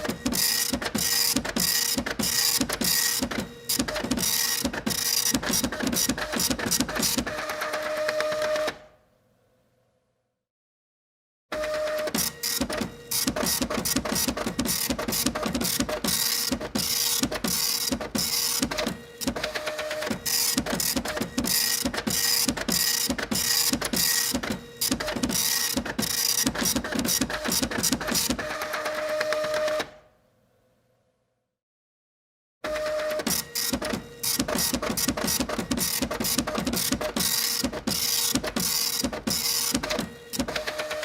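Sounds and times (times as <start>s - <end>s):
printer clicking and whirring: 0.0s - 8.9s, 11.5s - 30.0s, 32.6s - 41.0s.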